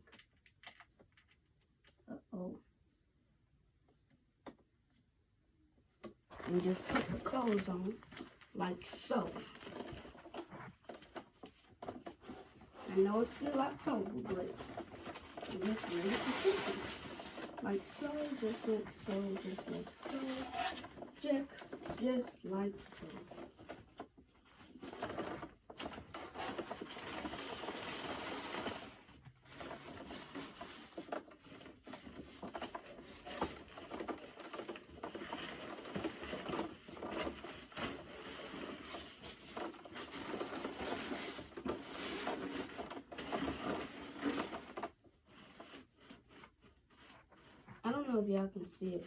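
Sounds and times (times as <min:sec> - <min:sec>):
cloth rustling: 0:06.3 - 0:49.0.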